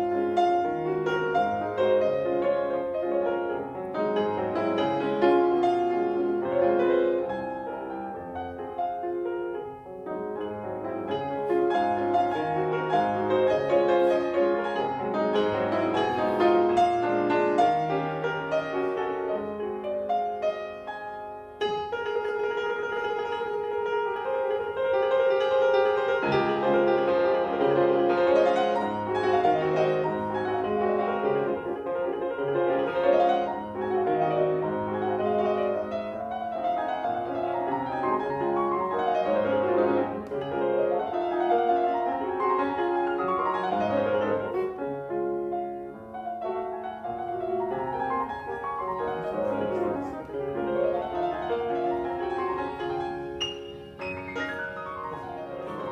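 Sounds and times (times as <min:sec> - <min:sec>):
piano music: 0:00.0 - 0:55.9.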